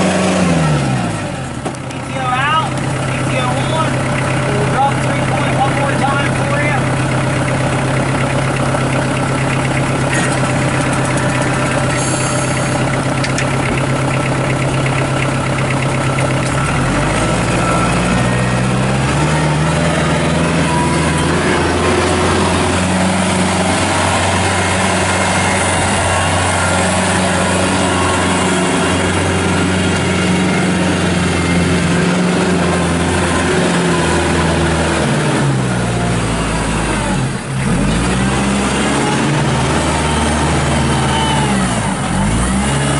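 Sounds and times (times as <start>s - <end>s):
tractor diesel engine: 0.0s - 42.9s.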